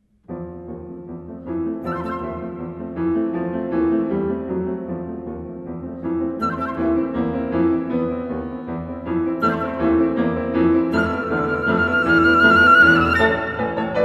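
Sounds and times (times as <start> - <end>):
piano: 0.0 - 14.0.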